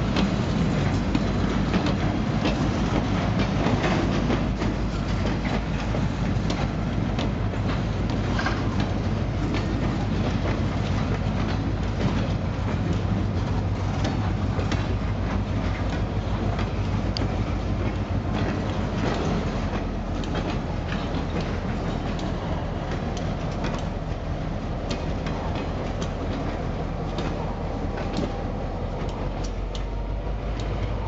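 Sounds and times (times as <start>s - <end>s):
low rumble of train: 0.0s - 31.0s
train wheels clicking over rail joints: 0.0s - 31.0s.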